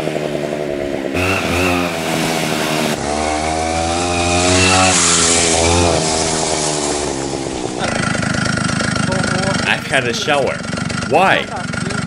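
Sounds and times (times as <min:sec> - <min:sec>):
two-stroke moped engine revving: 0:00.0 - 0:12.0.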